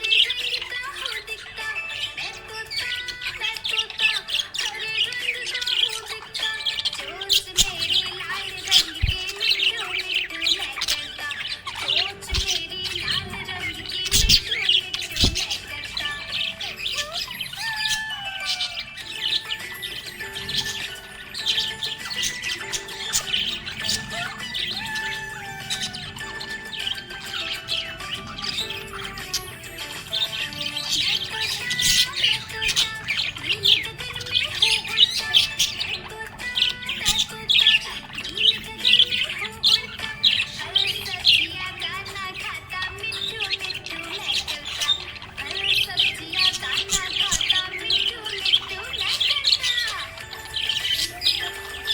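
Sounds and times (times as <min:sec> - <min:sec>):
budgerigars chirping and warbling: 0:00.0 - 0:51.9
parrots chattering and squawking: 0:00.0 - 0:51.9.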